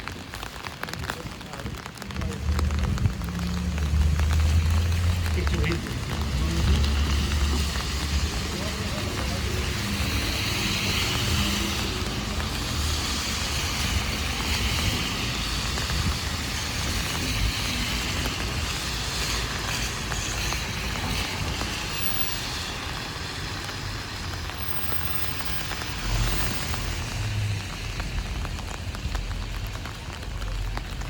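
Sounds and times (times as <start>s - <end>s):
heavy rain hitting an umbrella: 0.0s - 31.0s
traffic on wet street: 0.0s - 31.0s.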